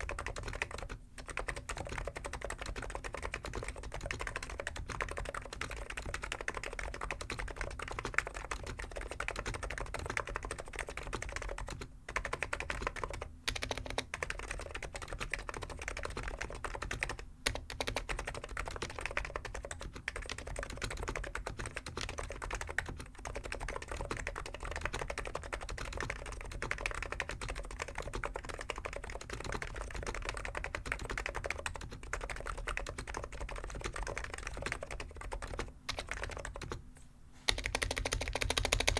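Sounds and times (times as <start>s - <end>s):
typing on a keyboard: 0.0s - 36.8s, 37.5s - 38.9s.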